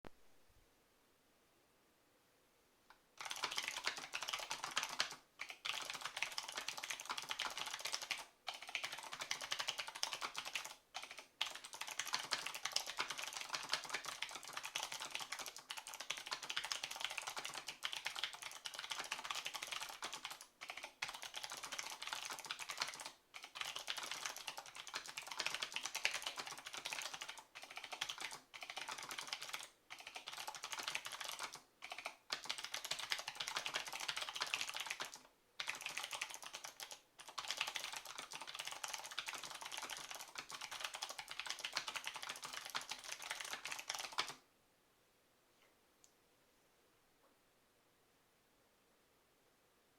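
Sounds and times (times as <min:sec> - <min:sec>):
clicky keyboard typing: 0:03.2 - 0:44.4.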